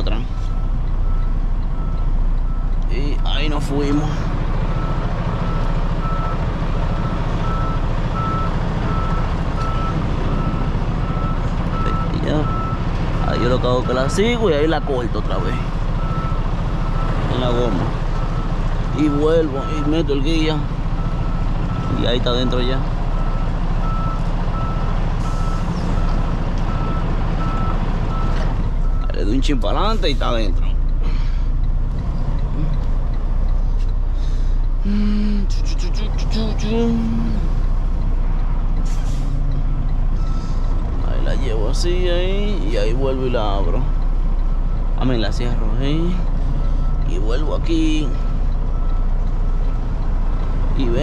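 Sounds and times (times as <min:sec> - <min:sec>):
diesel truck engine running: 0:00.0 - 0:51.0
truck backup alarm beeping: 0:00.0 - 0:51.0.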